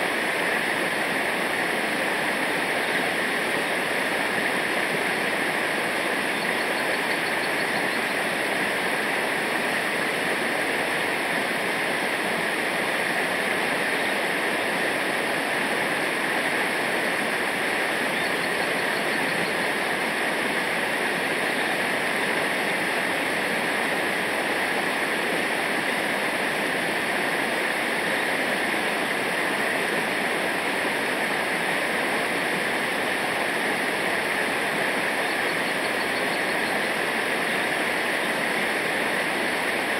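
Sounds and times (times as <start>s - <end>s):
river water rushing over rapids: 0.0s - 39.9s.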